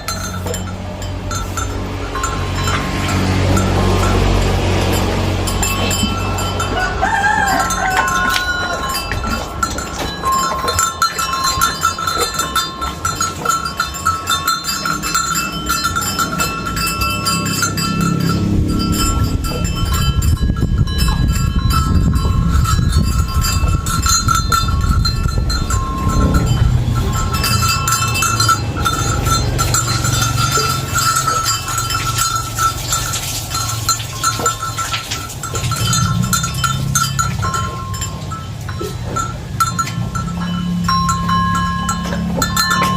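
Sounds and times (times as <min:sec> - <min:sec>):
cow handling noise: 0:00.0 - 0:42.9
low rumble of movement: 0:00.0 - 0:42.9
steady high ringing tone: 0:00.0 - 0:42.9.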